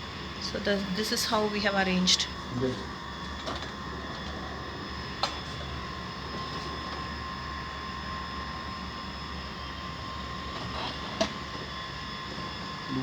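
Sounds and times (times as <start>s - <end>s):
mechanical hum with whine: 0.0s - 13.0s.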